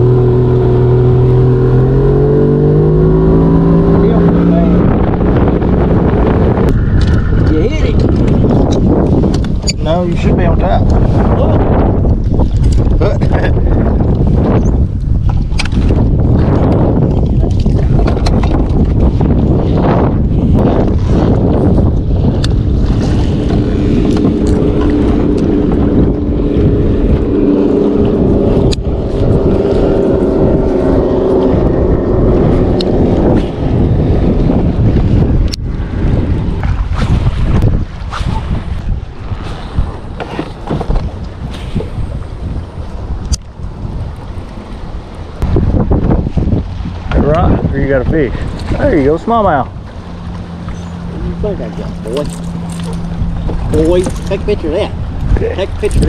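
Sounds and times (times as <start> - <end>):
boat motor hum: 0.0 - 56.0
wind buffeting microphone: 0.0 - 56.0.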